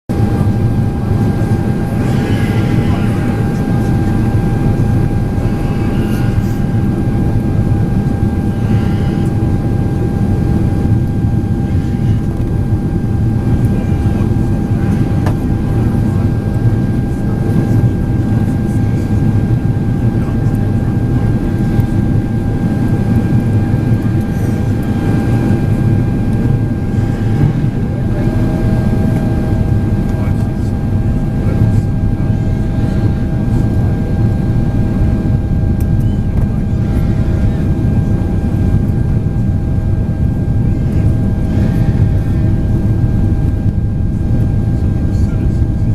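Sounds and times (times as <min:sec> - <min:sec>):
jet engine roar and airflow: 0:00.1 - 0:45.9
steady whine: 0:00.1 - 0:45.9
whine tone: 0:00.1 - 0:45.9.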